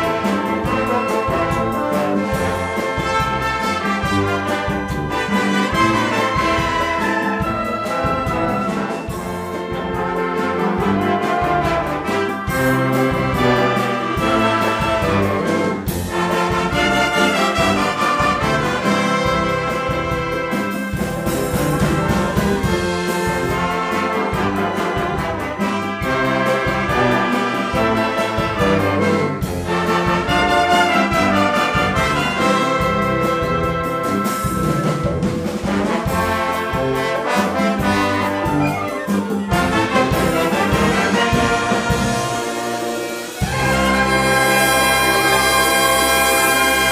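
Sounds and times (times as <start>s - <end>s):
wind band playing: 0.0s - 46.9s.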